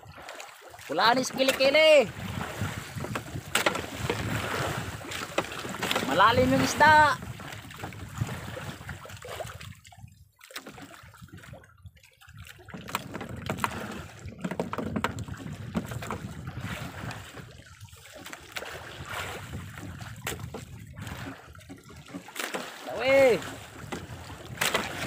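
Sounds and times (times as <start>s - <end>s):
water sloshing against boat: 0.0s - 25.0s
wind buffeting microphone: 1.8s - 10.4s, 11.0s - 22.1s, 23.3s - 25.0s.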